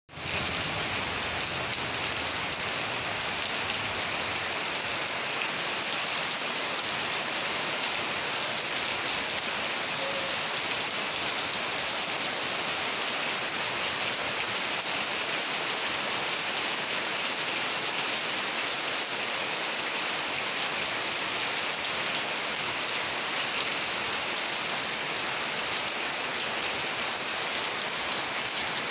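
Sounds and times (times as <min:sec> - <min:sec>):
heavy rain falling: 0:00.1 - 0:28.9.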